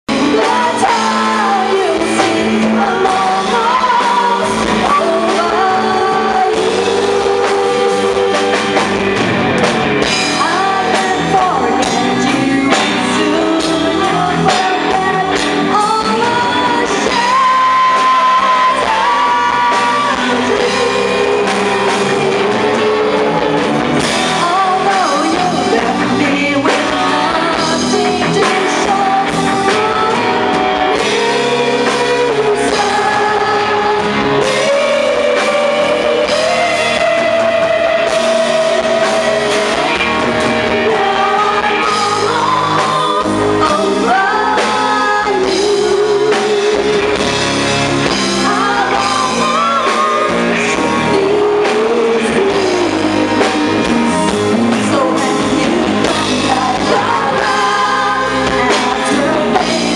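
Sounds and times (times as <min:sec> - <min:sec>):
bass guitar: 0:00.0 - 0:59.9
drums: 0:00.0 - 0:59.9
electric guitar: 0:00.0 - 0:59.9
group singing into microphones: 0:00.1 - 0:59.9.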